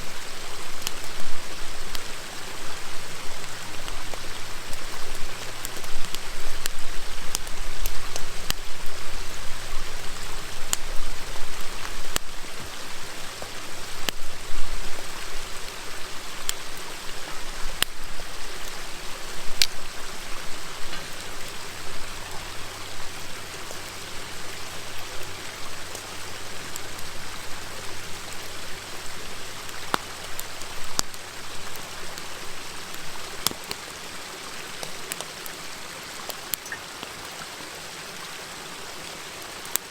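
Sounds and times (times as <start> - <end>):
wood fire crackling and popping: 0.0 - 37.5, 39.6 - 39.9
river stream rushing: 0.0 - 39.9.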